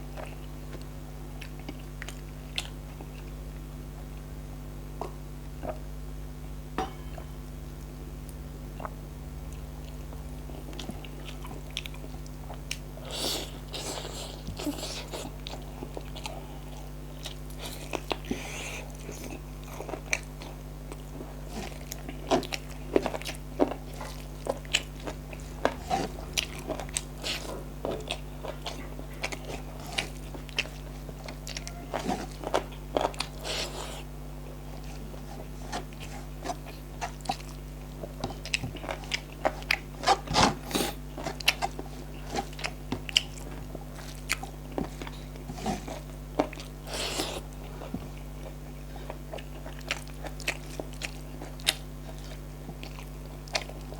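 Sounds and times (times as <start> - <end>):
low electrical hum: 0.0 - 53.9
person chewing food: 0.1 - 4.2, 8.7 - 53.9.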